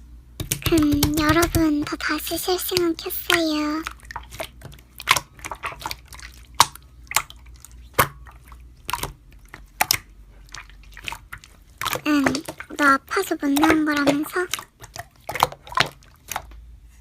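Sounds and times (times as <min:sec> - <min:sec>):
slime squished by hand: 0:00.4 - 0:16.7.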